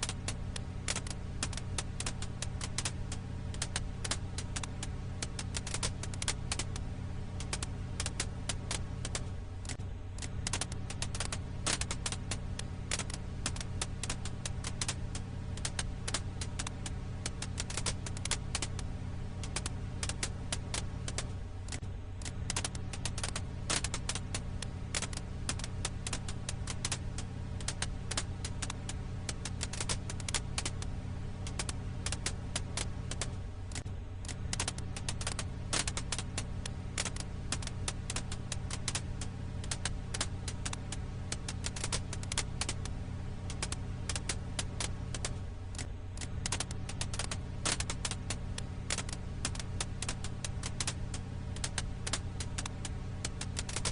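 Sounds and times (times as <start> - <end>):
firewood crackling: 0.0 - 53.9
steady low hum: 0.0 - 53.9.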